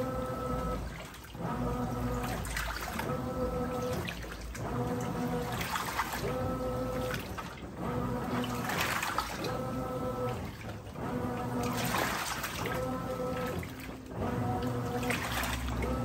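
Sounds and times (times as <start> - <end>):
washing machine motor humming: 0.0 - 16.0
water sloshing: 0.0 - 16.0.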